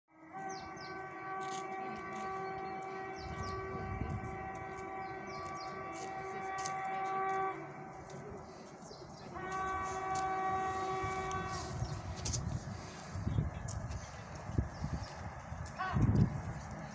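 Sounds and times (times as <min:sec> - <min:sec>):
train horn blasts: 0:00.1 - 0:16.8
train approaching at speed: 0:00.2 - 0:16.9.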